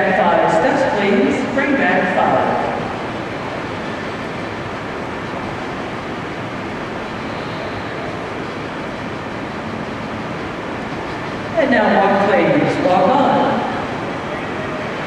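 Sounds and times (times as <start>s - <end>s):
indoor arena background hiss: 0.0s - 15.0s.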